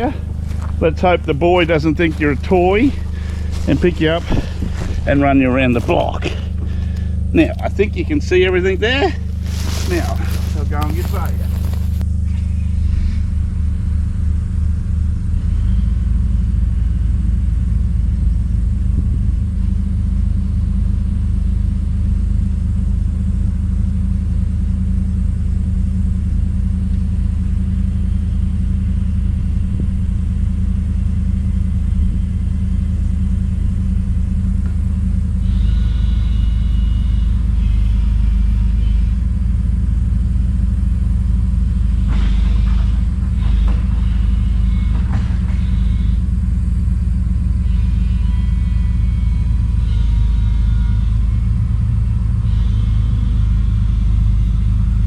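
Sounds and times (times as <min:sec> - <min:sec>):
heavy machine engine rumbling: 0:00.0 - 0:55.0
high whine: 0:00.0 - 0:55.0.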